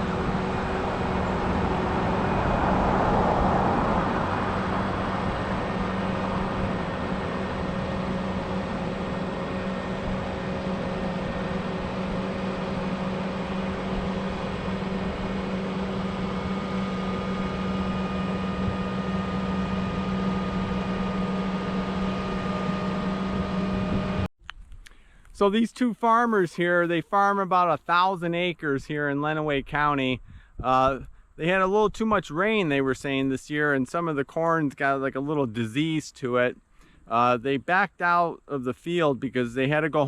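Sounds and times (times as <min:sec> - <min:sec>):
vehicle engine humming: 0:00.0 - 0:33.3.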